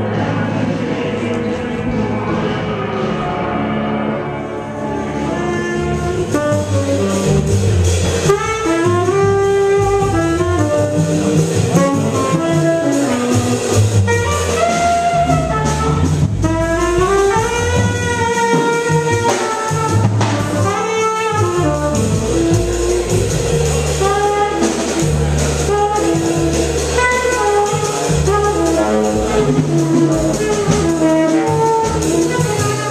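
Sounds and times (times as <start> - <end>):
bass line: 0.0 - 32.9
drums: 0.0 - 32.9
saxophone melody: 4.4 - 32.9.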